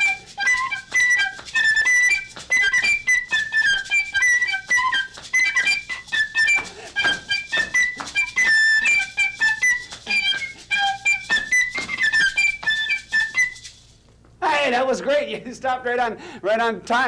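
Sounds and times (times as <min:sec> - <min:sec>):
whistle playing a quick tune: 0:00.0 - 0:13.8
maracas shaking: 0:00.0 - 0:14.8.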